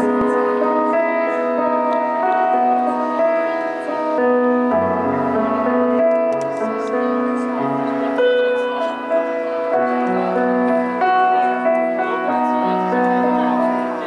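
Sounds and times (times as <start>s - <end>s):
band playing keyboard and guitars: 0.0s - 14.0s.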